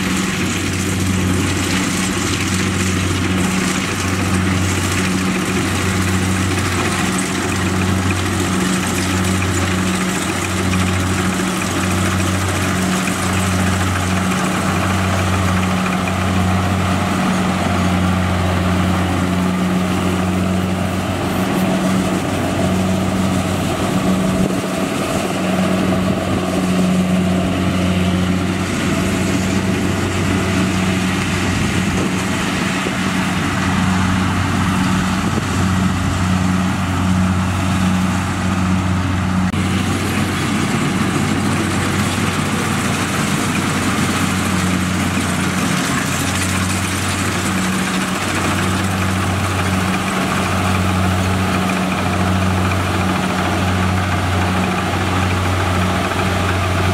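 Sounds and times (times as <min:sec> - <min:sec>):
combine harvester diesel engine: 0:00.0 - 0:56.9.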